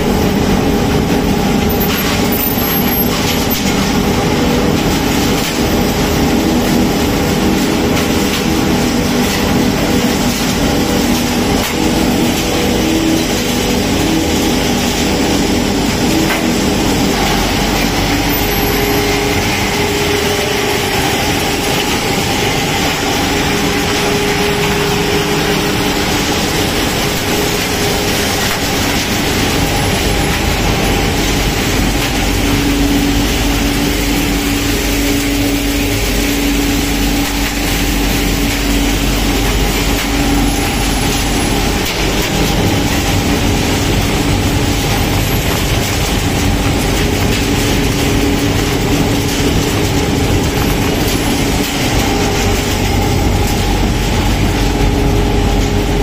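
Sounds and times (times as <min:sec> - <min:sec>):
industrial shredding machinery: 0:00.0 - 0:56.0
machine hums: 0:00.0 - 0:56.0.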